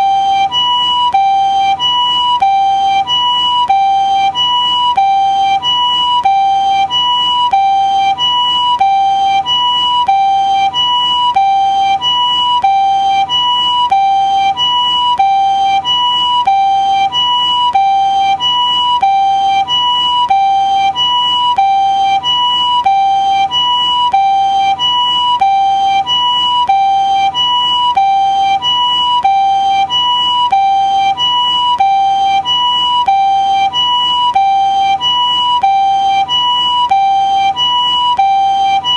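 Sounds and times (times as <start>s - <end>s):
two-tone ambulance siren: 0.0s - 38.9s.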